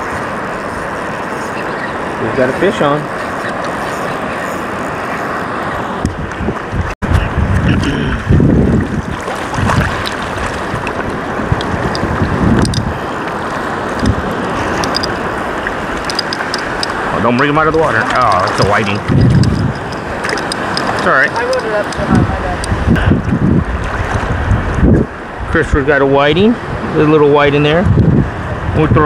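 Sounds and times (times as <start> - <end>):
person wading through waves: 0.0 - 25.4
surf washing: 0.0 - 29.0
wind buffeting microphone: 0.0 - 29.0.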